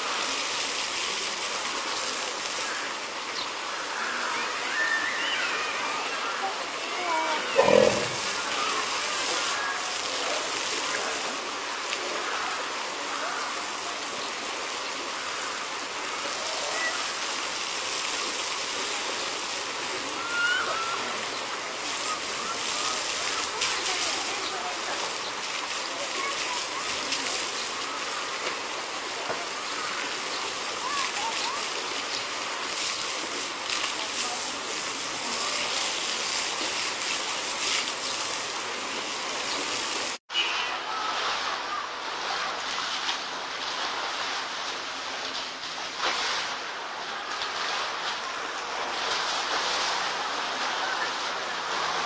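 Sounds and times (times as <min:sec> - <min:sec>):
water spraying and splashing: 0:00.0 - 0:52.0.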